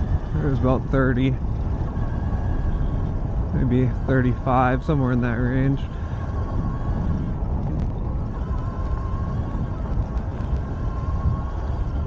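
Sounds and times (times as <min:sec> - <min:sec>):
wind and tyres rumbling: 0:00.0 - 0:12.0.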